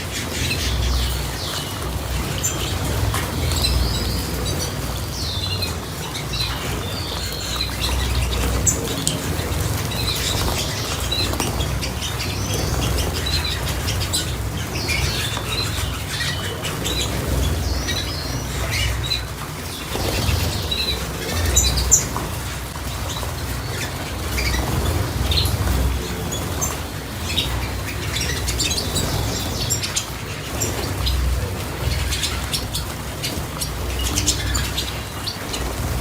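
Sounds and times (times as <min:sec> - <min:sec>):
small birds chirping: 0:00.0 - 0:36.0
wings fluttering: 0:00.0 - 0:36.0.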